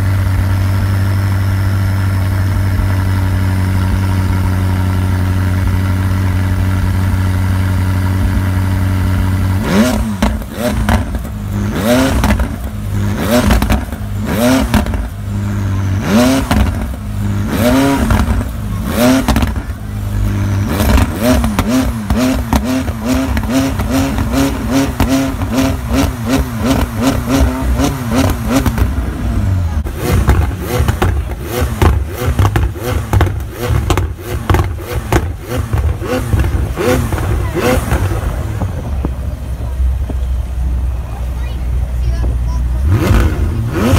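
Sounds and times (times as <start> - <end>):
exhaust pops and crackles: 0.0 - 41.1
car engine revving: 0.0 - 43.9.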